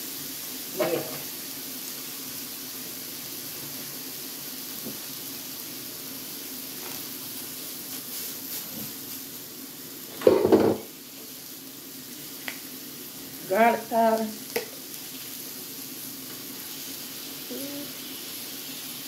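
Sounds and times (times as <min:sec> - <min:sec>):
steak and shrimp sizzling in a pan: 0:00.0 - 0:19.0.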